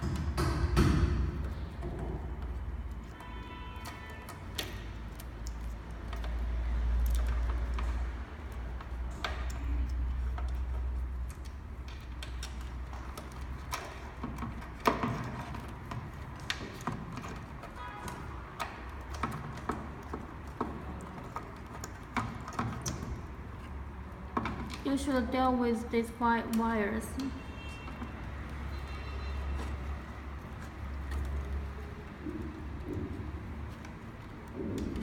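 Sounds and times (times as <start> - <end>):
tools and parts clicking and knocking: 0.0 - 25.4, 26.4 - 35.0.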